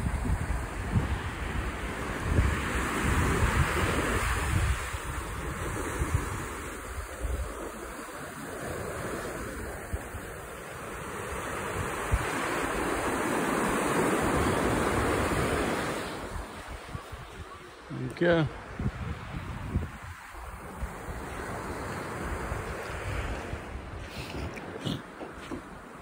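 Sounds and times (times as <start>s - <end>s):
wind buffeting microphone: 0.0s - 7.9s, 11.2s - 26.0s
waves breaking on beach: 0.0s - 26.0s.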